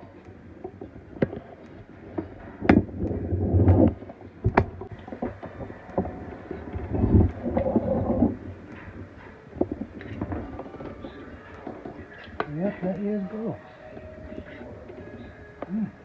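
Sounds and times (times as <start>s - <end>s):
sharp clicks and knocks: 0.0s - 13.2s.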